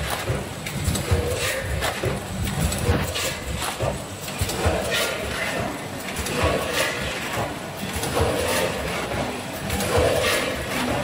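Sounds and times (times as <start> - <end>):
machine clicks: 0.0 - 11.0
packing machine clatter: 0.0 - 11.0.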